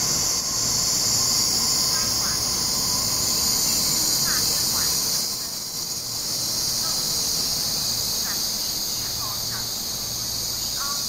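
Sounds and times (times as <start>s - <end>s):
electric trains high-pitched hiss: 0.0s - 11.0s.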